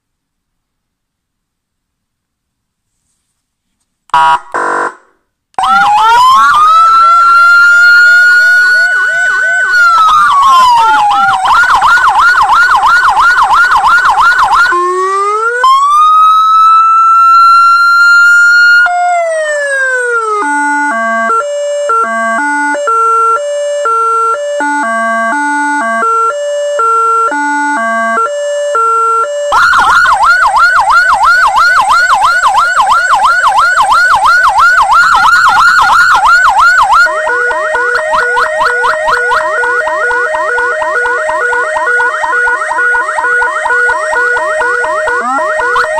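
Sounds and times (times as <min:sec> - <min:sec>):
electronic vehicle siren: 0:05.6 - 0:45.9.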